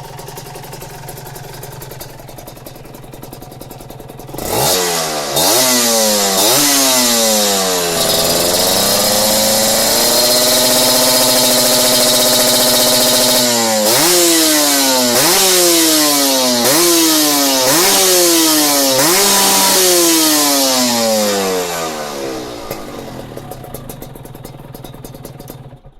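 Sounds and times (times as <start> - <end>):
two-stroke motorcycle engine revving: 0.0 - 25.9.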